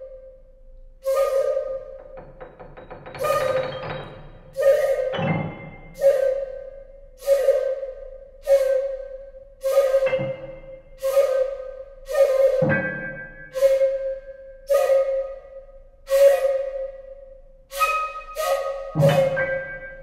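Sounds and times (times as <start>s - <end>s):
shakuhachi flute notes: 0.0s - 20.0s.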